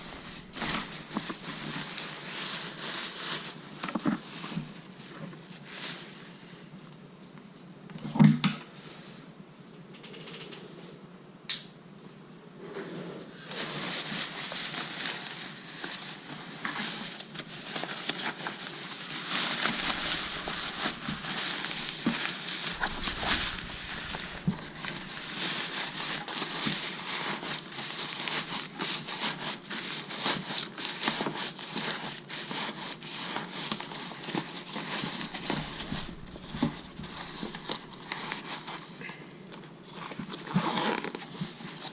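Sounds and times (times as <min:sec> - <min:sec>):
packaging crinkling and rustling: 0:00.0 - 0:07.0, 0:13.5 - 0:41.9.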